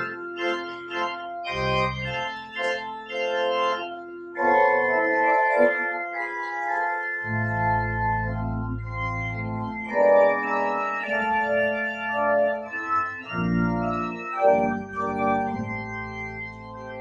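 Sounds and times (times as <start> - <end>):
church organ chords: 0.0 - 17.0
deep organ pedal bass: 0.0 - 17.0.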